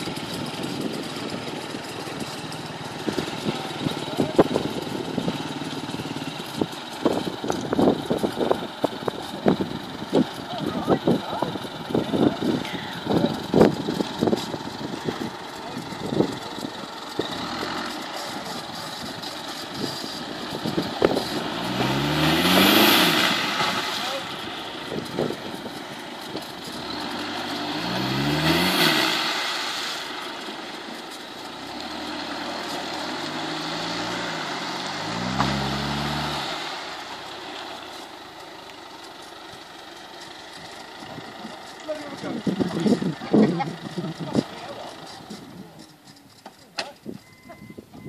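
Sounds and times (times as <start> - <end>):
car engine revving: 0.0 - 46.4.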